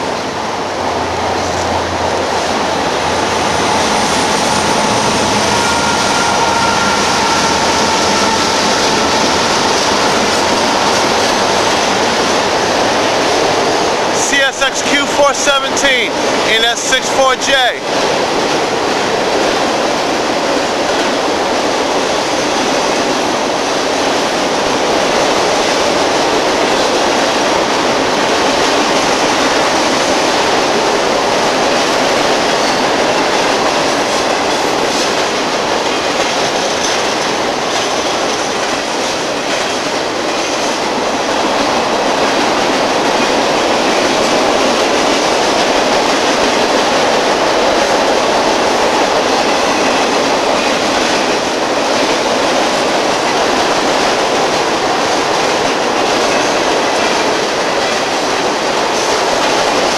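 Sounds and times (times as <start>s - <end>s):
freight train wheels rolling: 0.0s - 17.0s, 17.6s - 59.9s.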